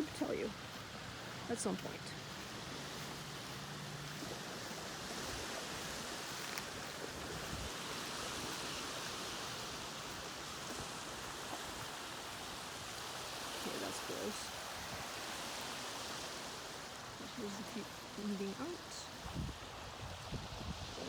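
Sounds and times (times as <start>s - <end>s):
water rushing: 0.0s - 19.8s.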